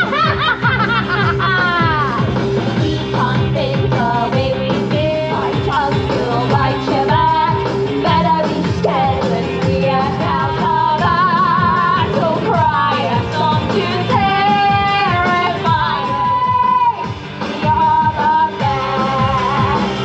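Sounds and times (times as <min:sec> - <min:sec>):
pop music with bass and beat: 0:00.0 - 0:20.0.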